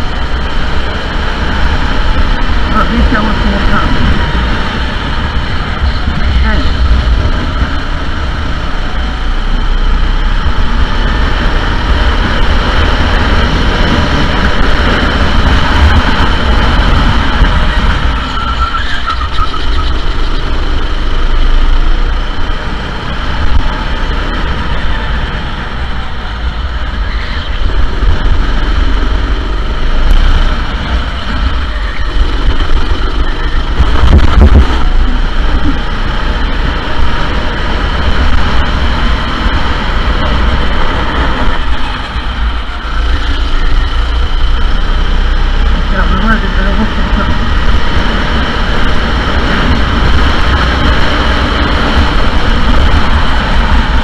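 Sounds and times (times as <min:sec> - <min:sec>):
go-kart engines running: 0:00.0 - 0:54.0.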